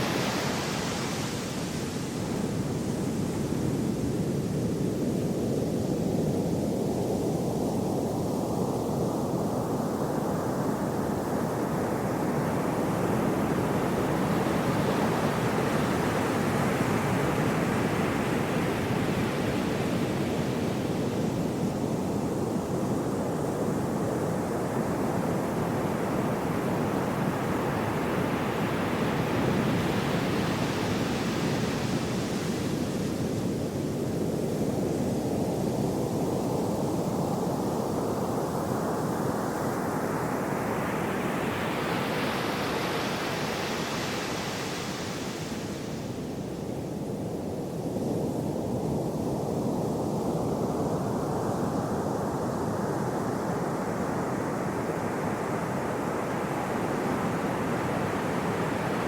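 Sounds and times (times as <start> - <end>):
gentle ocean waves: 0.0 - 59.0.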